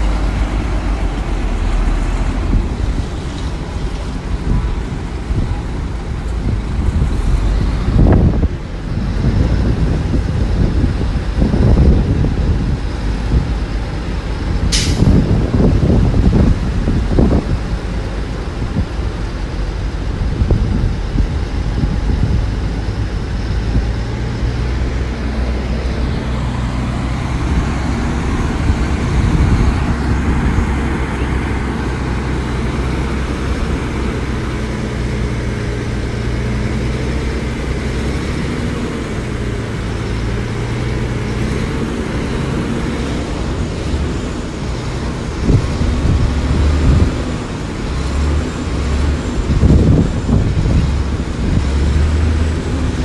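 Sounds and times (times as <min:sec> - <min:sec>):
heavy machinery diesel engines: 0:00.0 - 0:53.0.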